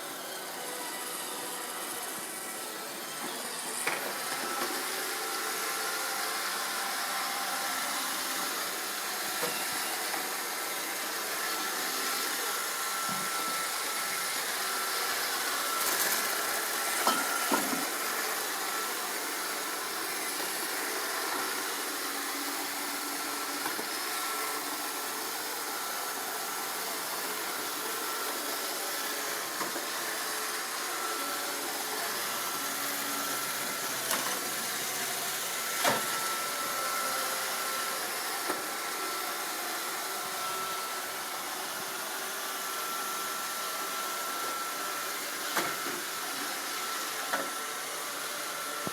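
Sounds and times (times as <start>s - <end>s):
robot vacuum whirring: 0.0s - 48.9s.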